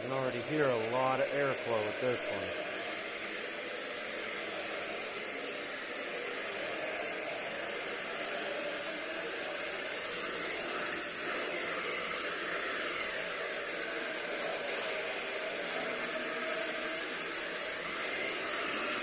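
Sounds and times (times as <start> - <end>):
high motor whine: 0.0 - 19.0
vacuum cleaner running: 0.0 - 19.0.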